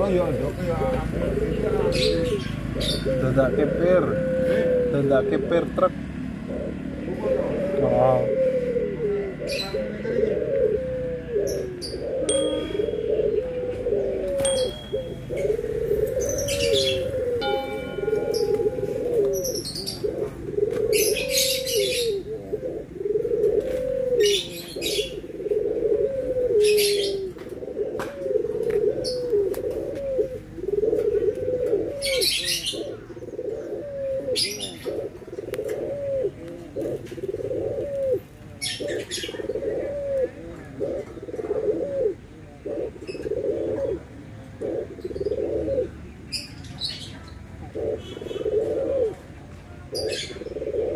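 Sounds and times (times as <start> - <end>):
birds chirping: 0.0 - 50.9
doves cooing: 0.0 - 50.9.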